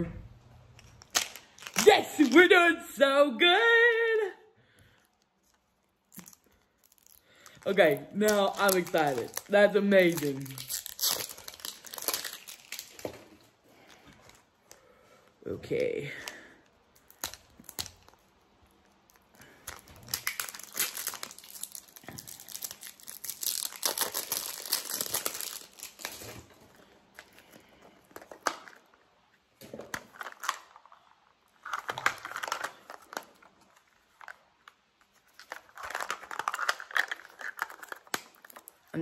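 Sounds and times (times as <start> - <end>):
plastic crinkling and tearing: 0.7 - 2.6, 5.0 - 14.8, 16.6 - 39.0.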